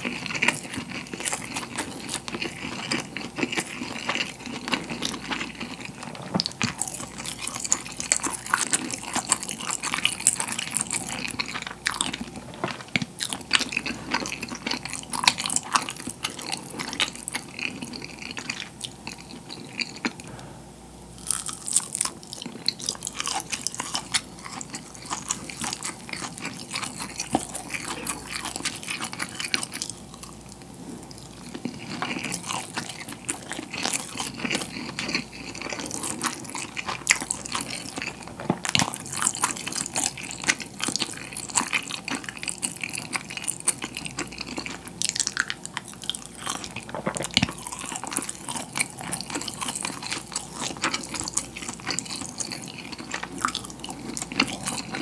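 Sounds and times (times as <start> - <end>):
chewing and wet mouth sounds: 0.0 - 20.5, 21.2 - 55.0.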